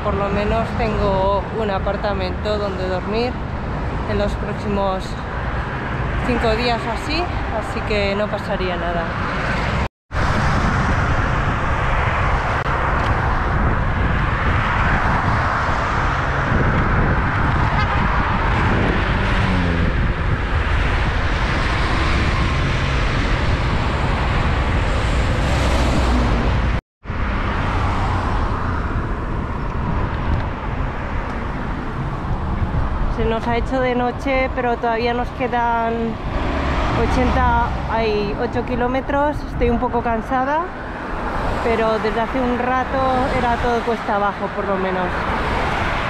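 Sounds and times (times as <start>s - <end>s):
highway traffic: 0.0s - 46.0s
wind on microphone: 0.0s - 46.0s.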